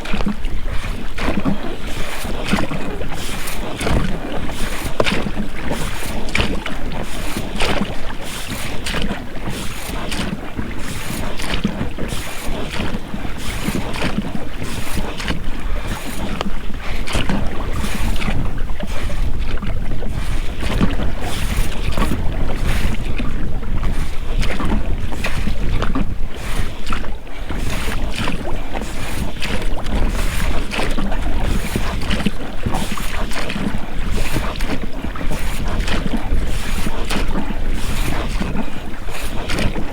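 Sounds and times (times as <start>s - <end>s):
oars splashing into water: 0.0s - 39.9s
wind rumbling on microphone: 0.0s - 39.9s.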